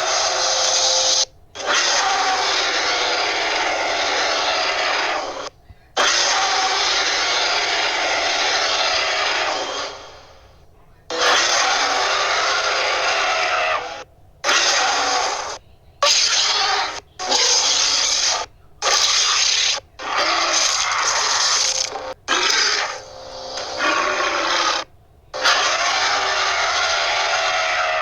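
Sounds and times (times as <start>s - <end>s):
dinosaur roars: 0.0s - 10.3s, 11.1s - 28.0s.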